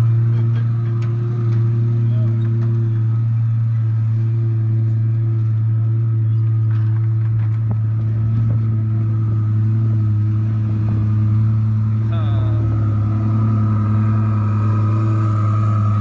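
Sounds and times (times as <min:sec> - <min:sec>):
sports car engine idling: 0:00.0 - 0:16.0.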